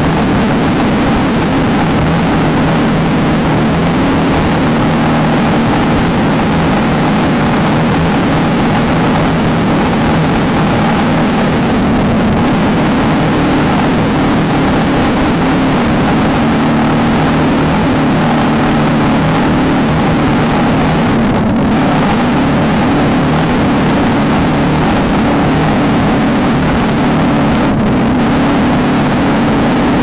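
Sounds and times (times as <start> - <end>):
constant noisy rush: 0.0 - 30.0
race vehicle engine running hard: 0.0 - 30.0.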